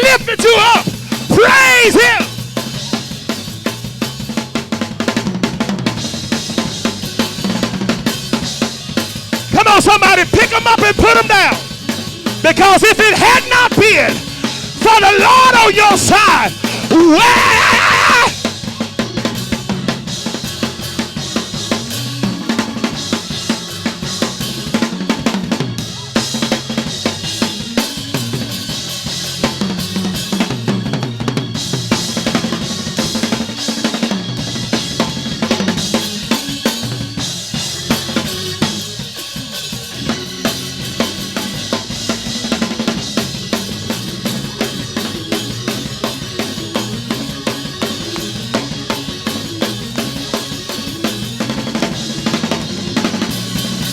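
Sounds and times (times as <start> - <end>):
drum kit driving beat: 0.0 - 53.9
walking bass line: 0.0 - 53.9.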